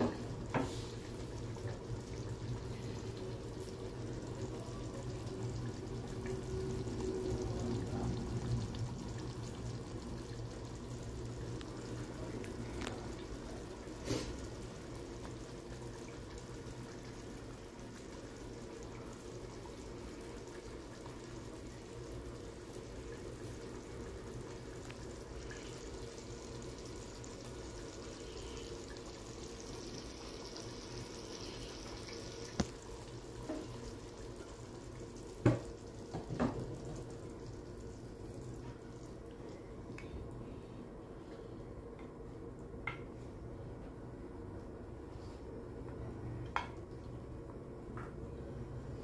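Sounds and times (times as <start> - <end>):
gravy bubbling in a pot: 0.0 - 49.0.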